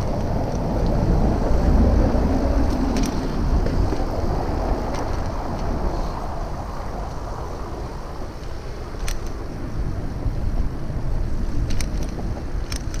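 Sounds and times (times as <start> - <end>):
bicycle rumble on streets: 0.0 - 13.0
wind buffeting microphone: 0.0 - 13.0.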